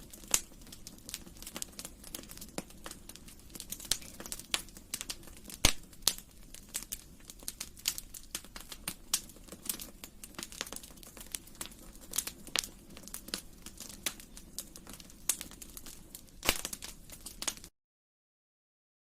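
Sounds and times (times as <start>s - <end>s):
wood fire crackling: 0.0s - 17.7s.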